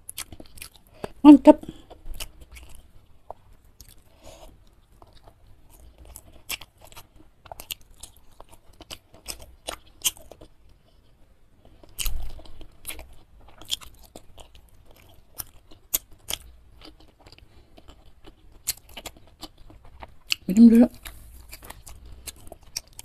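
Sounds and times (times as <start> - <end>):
chewing crunches: 0.0 - 10.6, 11.6 - 23.0.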